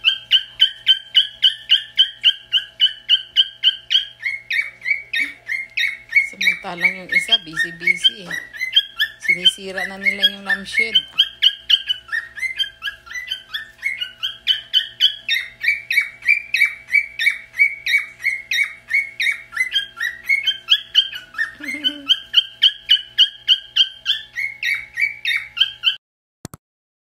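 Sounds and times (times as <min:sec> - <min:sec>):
cockatiel chirping: 0:00.0 - 0:26.0.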